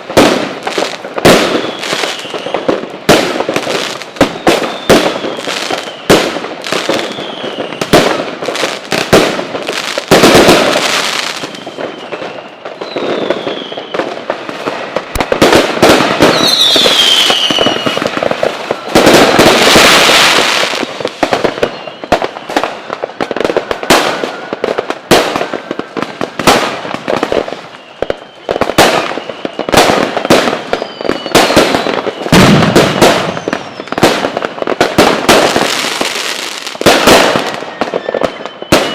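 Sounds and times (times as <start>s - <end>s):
firework whistles: 0.0s - 38.9s
fireworks bangs and crackling: 0.0s - 38.9s.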